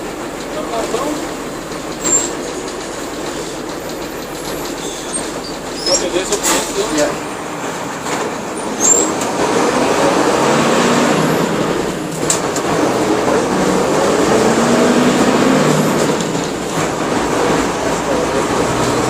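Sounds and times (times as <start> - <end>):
diesel bus engine revving: 0.0 - 19.0.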